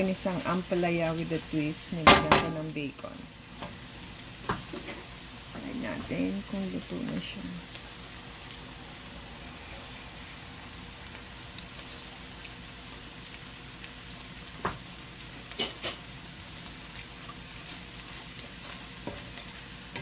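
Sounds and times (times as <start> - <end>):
food sizzling in a metal pan: 0.0 - 20.0.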